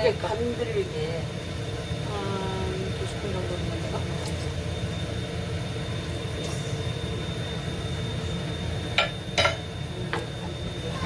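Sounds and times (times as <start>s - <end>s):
low kitchen rumble: 0.0s - 11.0s.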